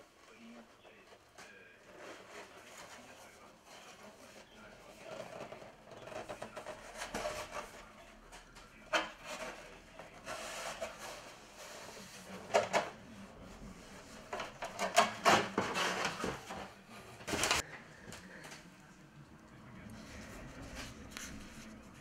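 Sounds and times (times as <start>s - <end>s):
cardboard and paper rustling: 0.0s - 18.8s.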